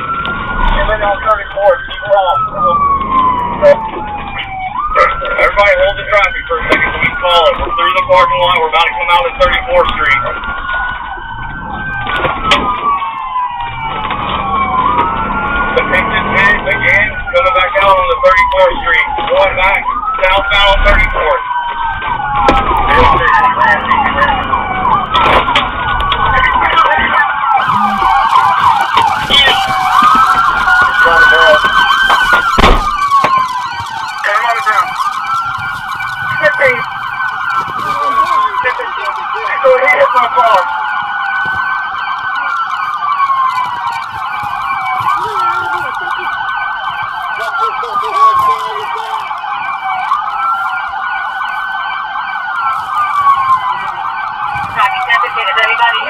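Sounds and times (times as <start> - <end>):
police sirens wailing and yelping: 0.0 - 56.0.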